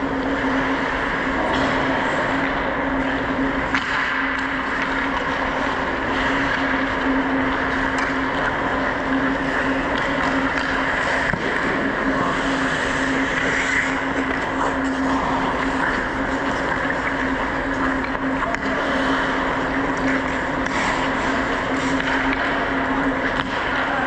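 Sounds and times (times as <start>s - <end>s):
constant low hum: 0.0s - 24.0s
steady rush of noise: 0.0s - 24.0s.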